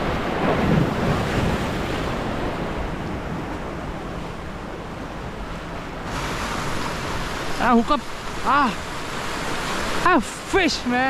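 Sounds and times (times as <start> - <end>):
sea waves breaking over rocks: 0.0 - 11.0.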